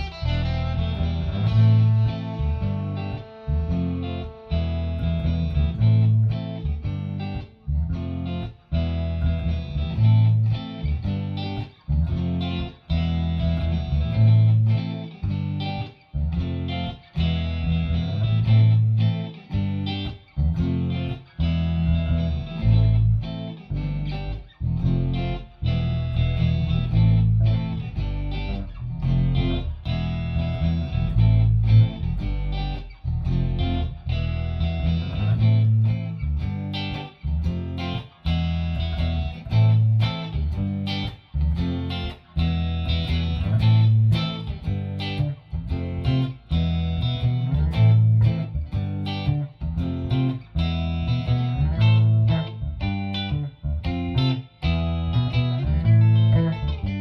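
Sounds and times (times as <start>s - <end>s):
guitar shuffle: 0.0s - 57.0s
repeating bass line: 0.0s - 57.0s.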